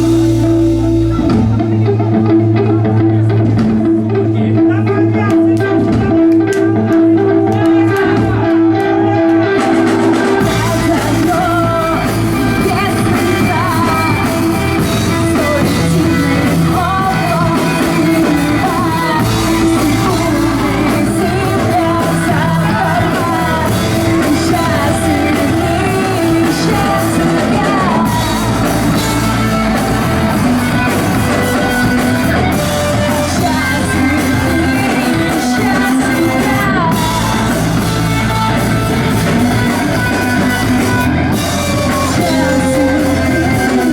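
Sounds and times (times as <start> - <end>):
bass line: 0.0 - 43.9
electric guitars: 0.0 - 43.9
person singing and shouting: 0.0 - 43.9
rock band playing live: 0.0 - 43.9.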